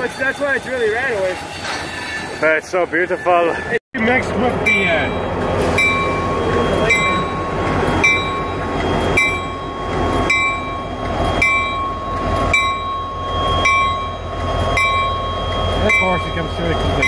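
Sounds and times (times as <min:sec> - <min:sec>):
crossing bell ringing: 0:00.0 - 0:17.0
diesel locomotives rumbling past: 0:00.0 - 0:17.0.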